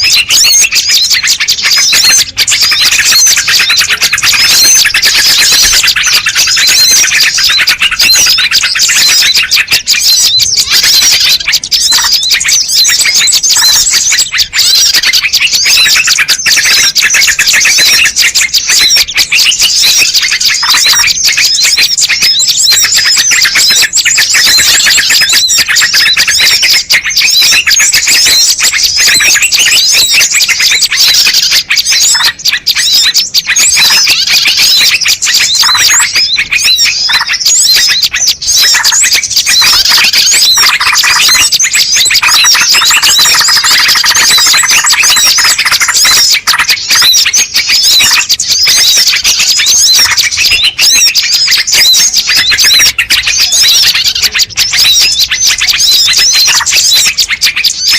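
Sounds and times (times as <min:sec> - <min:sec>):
songbirds chirping and twittering: 0:00.0 - 0:57.9.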